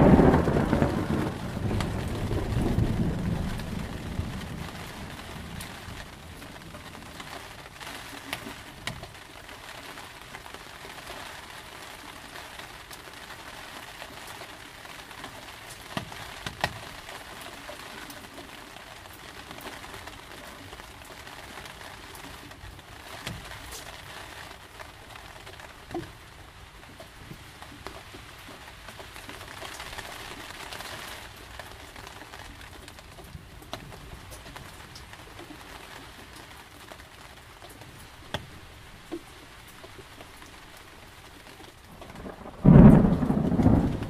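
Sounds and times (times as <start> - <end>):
rain falling on a surface: 0.0 - 44.0.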